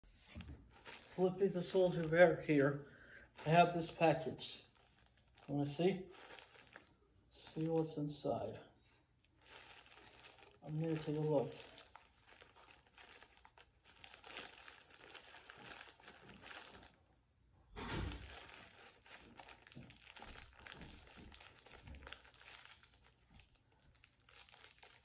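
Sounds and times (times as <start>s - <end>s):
plastic mailer crinkling: 0.2s - 8.4s, 9.3s - 17.0s, 17.8s - 25.0s.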